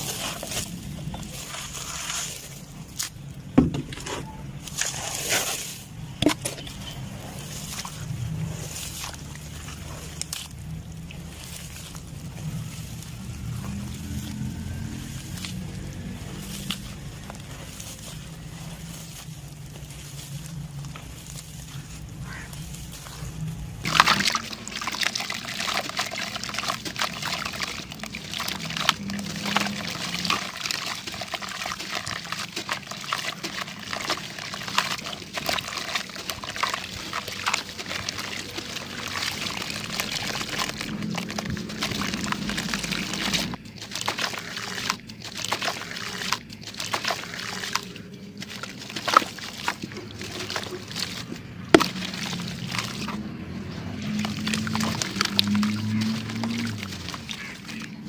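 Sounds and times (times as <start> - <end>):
sand crumbling and pouring: 0.0 - 58.0.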